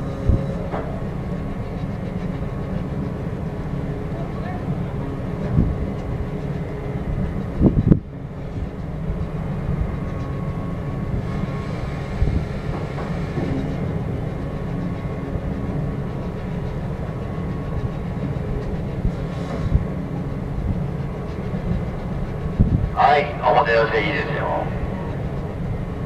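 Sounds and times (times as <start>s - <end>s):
ship machinery droning: 0.0s - 26.0s.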